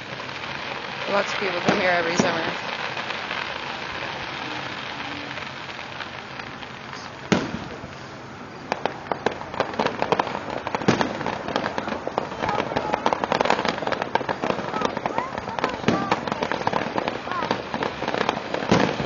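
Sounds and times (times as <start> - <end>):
crackle of small sharp bangs: 0.0 - 19.0
fireworks bursting: 0.0 - 19.0.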